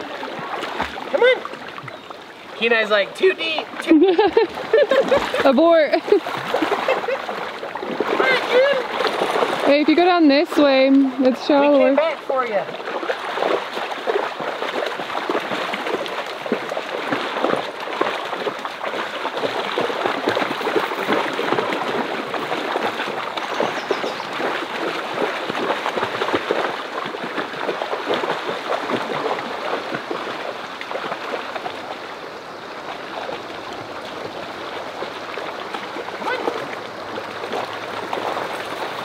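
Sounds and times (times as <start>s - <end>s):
stream flowing: 0.0s - 39.0s
water splashing: 0.0s - 39.0s.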